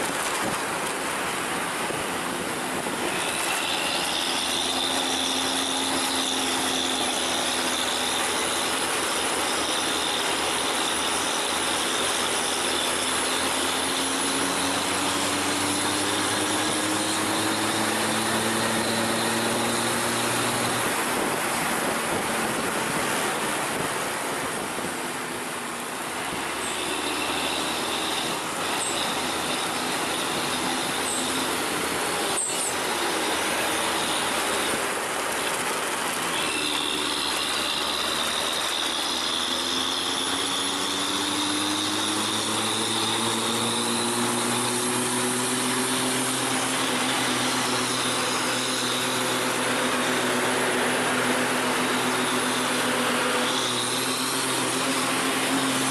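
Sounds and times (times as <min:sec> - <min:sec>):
bus engine running: 0:00.0 - 0:55.9
high whine: 0:00.0 - 0:55.9
tyre and road noise: 0:00.0 - 0:55.9.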